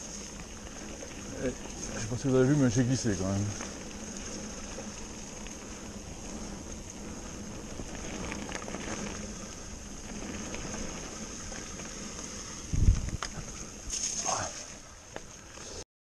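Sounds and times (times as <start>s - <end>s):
bike tyres rolling on dirt trail: 0.0s - 15.8s.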